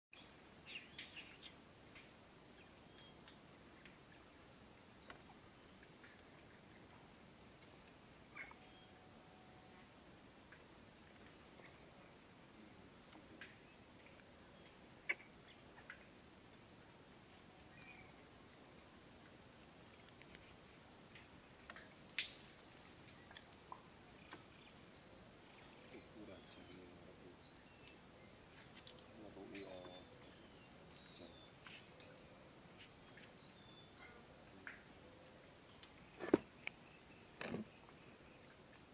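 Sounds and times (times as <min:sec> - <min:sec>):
insect chirps and clicks: 0:00.2 - 0:38.9
insects droning: 0:00.2 - 0:38.9.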